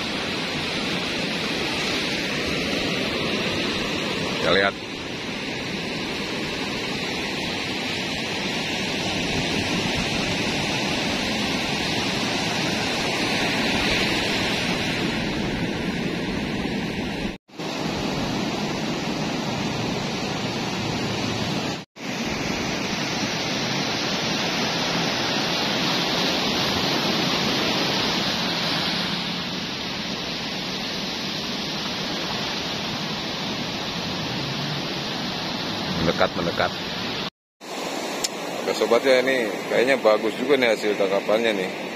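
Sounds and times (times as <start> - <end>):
wind on microphone: 0.0 - 36.0
surf breaking on beach: 0.0 - 41.9.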